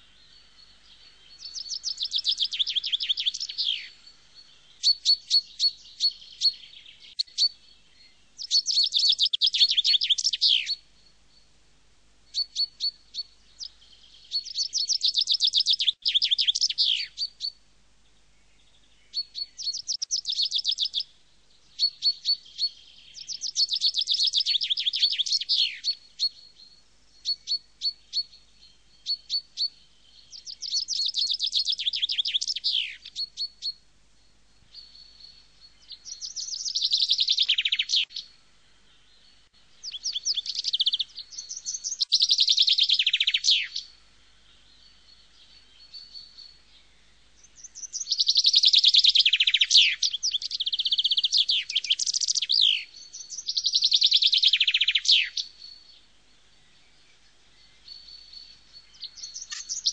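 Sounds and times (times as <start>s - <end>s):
songbird singing trills: 0.0s - 11.6s, 12.2s - 59.9s.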